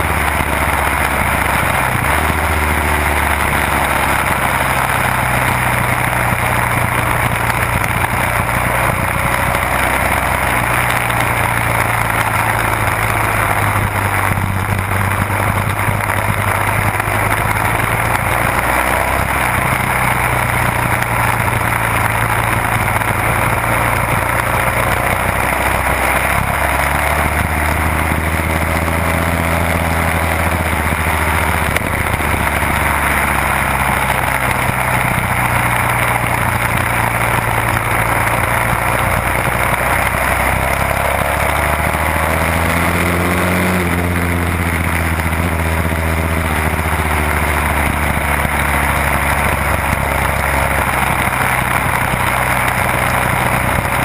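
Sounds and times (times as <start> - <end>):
motorcycle engine running hard: 0.0 - 54.0.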